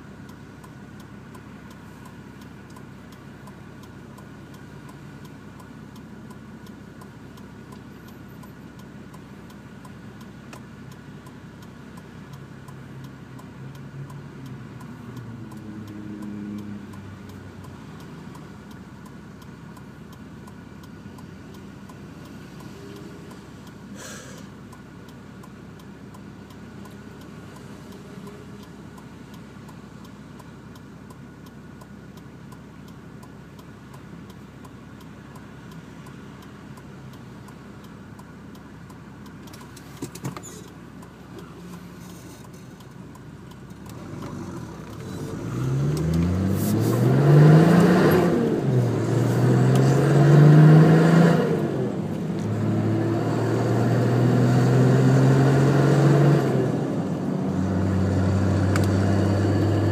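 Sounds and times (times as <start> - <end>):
steady ticking: 0.0 - 59.9.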